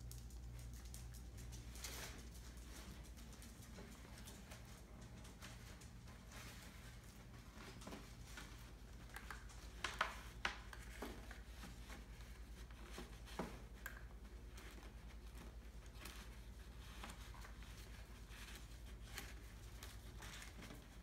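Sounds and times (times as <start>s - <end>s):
small paws tapping and scraping: 0.0s - 21.0s.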